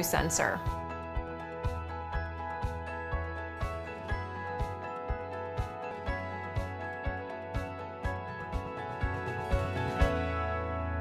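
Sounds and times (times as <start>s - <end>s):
music with steady beat: 0.6s - 10.9s
held chord with deep bass: 0.6s - 11.0s.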